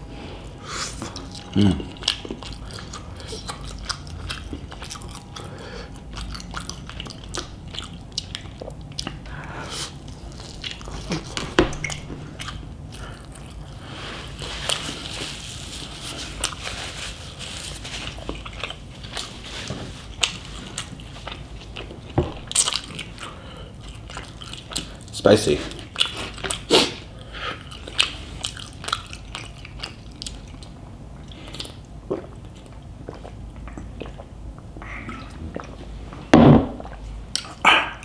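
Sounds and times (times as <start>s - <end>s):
mouth chewing and smacking: 0.8s - 15.2s, 18.0s - 36.2s, 36.8s - 38.0s.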